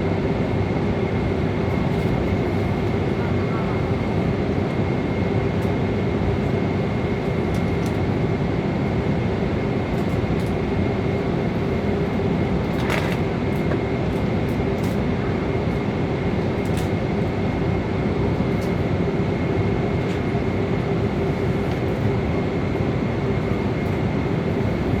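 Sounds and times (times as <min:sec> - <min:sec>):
airliner cabin engine rush: 0:00.0 - 0:25.0.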